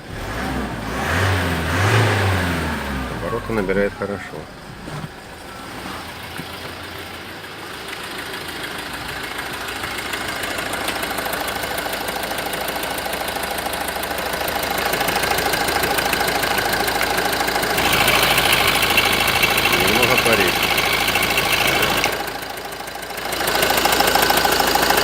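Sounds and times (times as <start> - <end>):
diesel engine clatter: 0.0 - 25.0.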